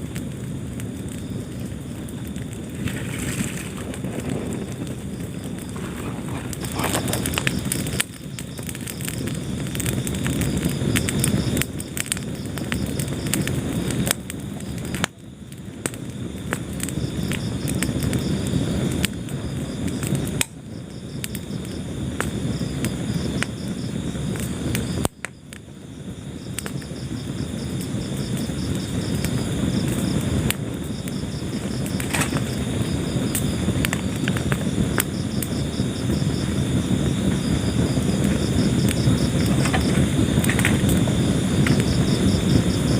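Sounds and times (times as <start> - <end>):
low steady fire roar: 0.0 - 42.9
wood fire crackling and popping: 0.0 - 42.9.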